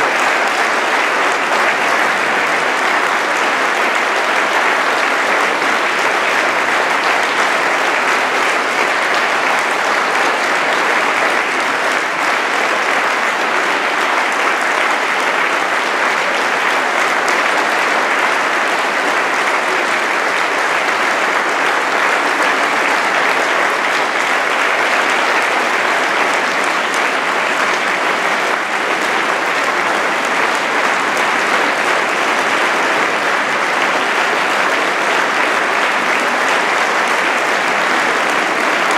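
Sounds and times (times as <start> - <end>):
audience applause: 0.0 - 38.9.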